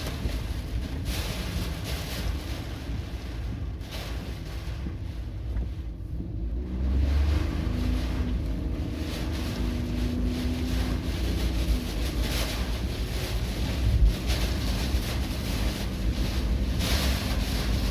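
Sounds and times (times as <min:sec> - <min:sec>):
gusty wind buffeting microphone: 0:00.0 - 0:17.9.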